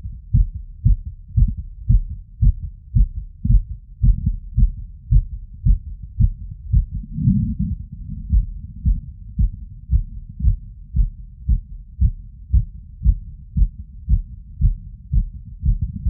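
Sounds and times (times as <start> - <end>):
faint low rumble: 0.0 - 16.0
fast heartbeat thumps: 0.0 - 16.0.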